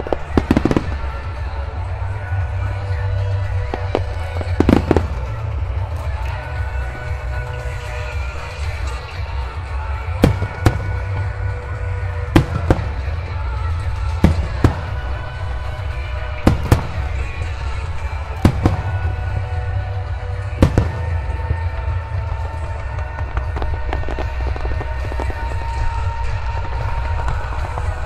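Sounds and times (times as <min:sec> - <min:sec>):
music through loudspeakers: 0:00.0 - 0:28.0.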